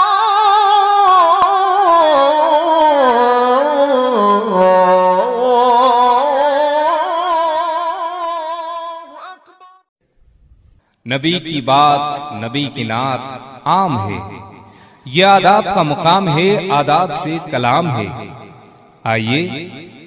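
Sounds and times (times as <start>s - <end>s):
person chanting with vibrato: 0.0s - 9.7s, 11.1s - 14.5s, 15.1s - 18.4s.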